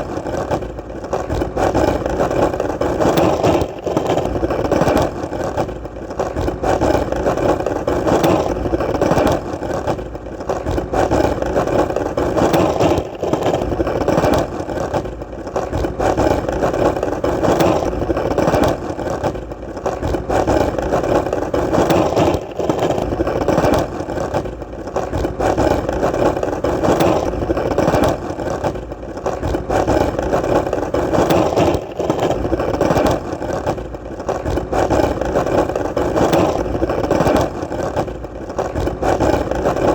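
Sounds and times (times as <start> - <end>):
skateboard wheels rolling: 0.0 - 39.9.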